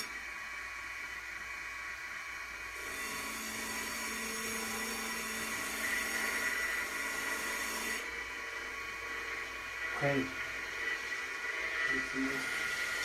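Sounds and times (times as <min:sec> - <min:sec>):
small electric motor humming: 0:00.0 - 0:00.3, 0:02.6 - 0:13.0.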